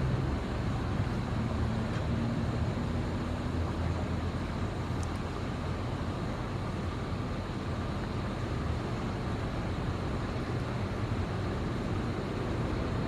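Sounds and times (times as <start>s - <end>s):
distant road traffic rumble: 0.0s - 13.0s
engine hum: 0.0s - 13.0s.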